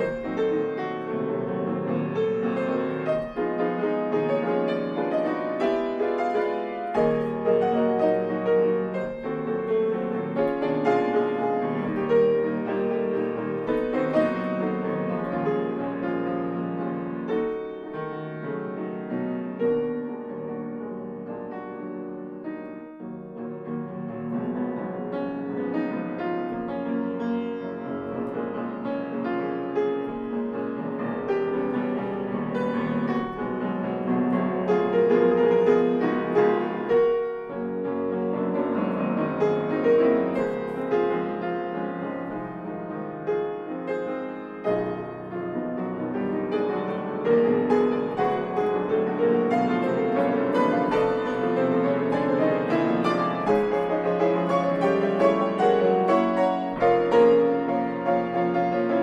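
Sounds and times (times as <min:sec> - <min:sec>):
grand piano classical piece: 0:00.0 - 0:59.0.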